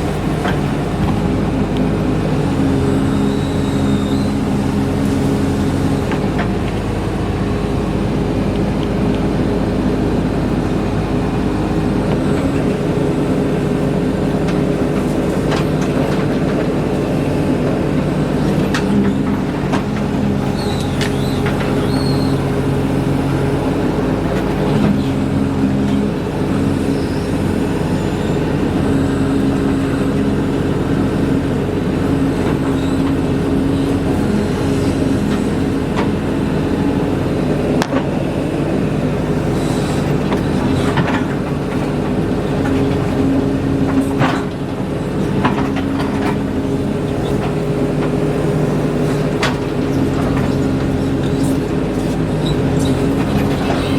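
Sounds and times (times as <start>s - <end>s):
heavy machinery engine under load: 0.0s - 53.9s.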